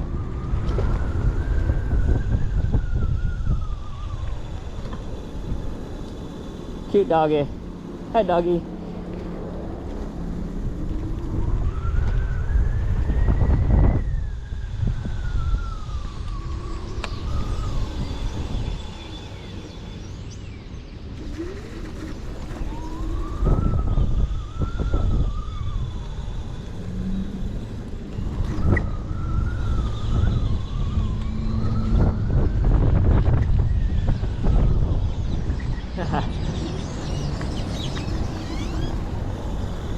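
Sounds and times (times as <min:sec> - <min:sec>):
electric scooter motors whining: 0:00.0 - 0:39.9
wind rumble on microphone: 0:00.0 - 0:39.9.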